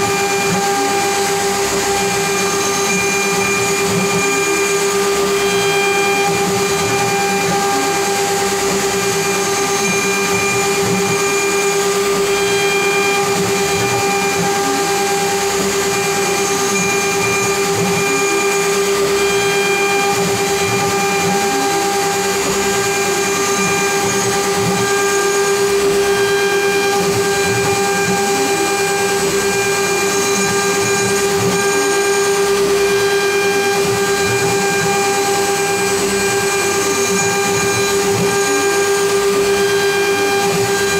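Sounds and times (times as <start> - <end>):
gliding motor tones: 0.0 - 40.9
router spindle whining: 0.0 - 40.9.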